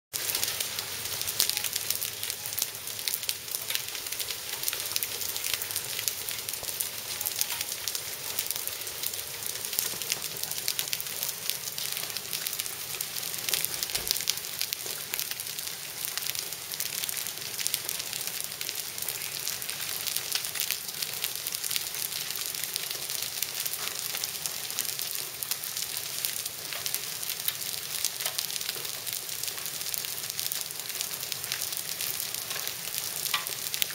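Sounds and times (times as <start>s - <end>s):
hailstones ticking on tiles: 0.2s - 33.9s.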